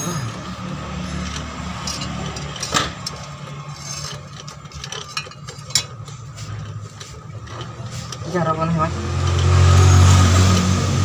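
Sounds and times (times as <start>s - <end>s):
metal tool clinking and scraping: 0.0s - 10.8s.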